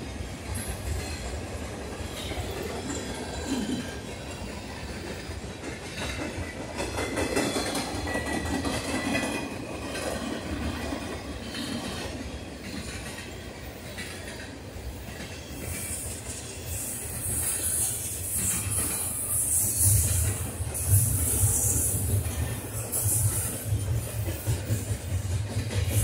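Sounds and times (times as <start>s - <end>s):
train rumble: 0.0s - 26.0s
train wheels clattering over rail joints: 0.0s - 26.0s.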